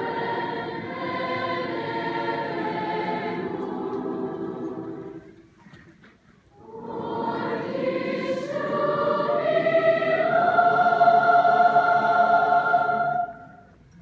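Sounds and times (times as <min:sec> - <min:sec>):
choir singing: 0:00.0 - 0:05.3, 0:06.6 - 0:13.8.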